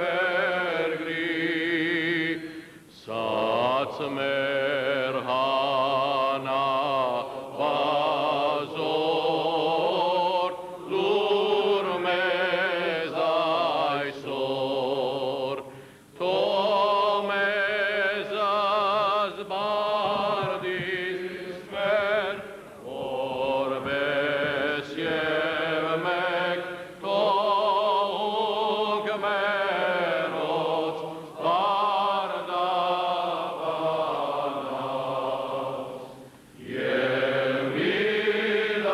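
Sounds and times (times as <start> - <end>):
men chanting a hymn: 0.0 - 38.9.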